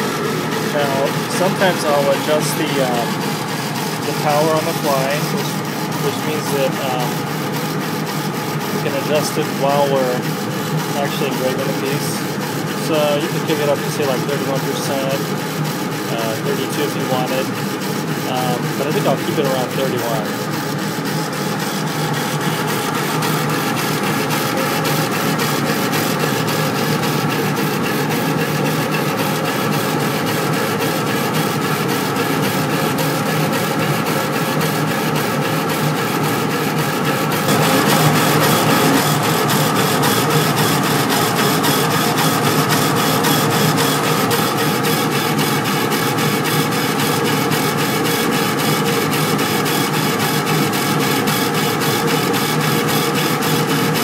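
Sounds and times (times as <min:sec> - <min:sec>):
laser engraver carriage whirring: 0:00.0 - 0:54.0.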